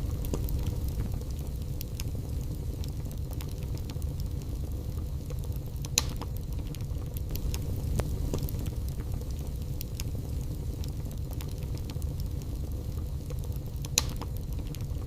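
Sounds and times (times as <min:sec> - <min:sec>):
fire crackling and popping: 0:00.0 - 0:15.0
fire flames rumbling: 0:00.0 - 0:15.0.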